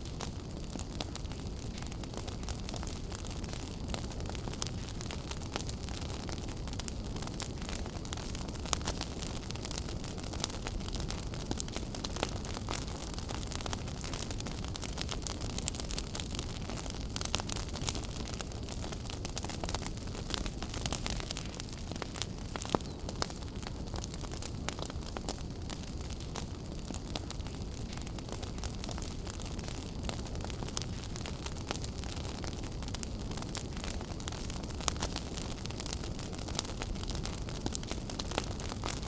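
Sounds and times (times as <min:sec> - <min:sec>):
wood fire burning: 0:00.0 - 0:39.0.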